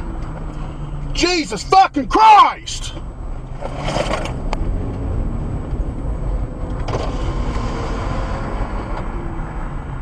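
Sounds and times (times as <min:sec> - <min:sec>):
road noise: 0:00.0 - 0:10.0
vehicle engine rumble: 0:00.0 - 0:10.0.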